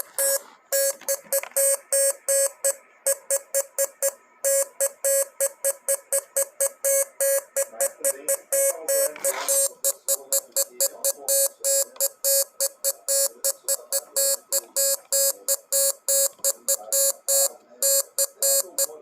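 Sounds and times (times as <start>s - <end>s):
morse code beeps: 0.0s - 19.0s.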